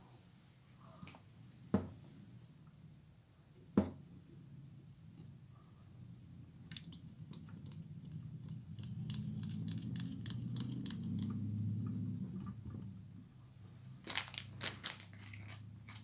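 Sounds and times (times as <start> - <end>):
low steady hum: 0.3 - 14.6.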